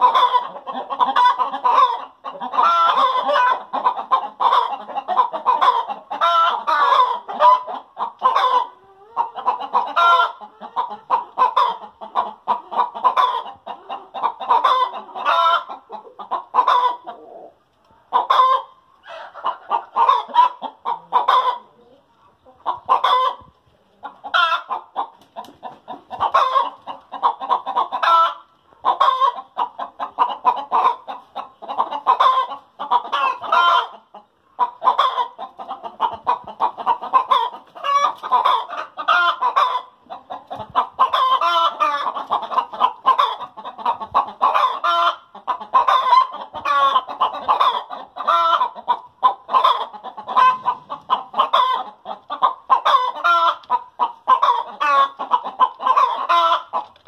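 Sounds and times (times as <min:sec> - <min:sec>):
hens cackling: 0:00.0 - 0:57.0.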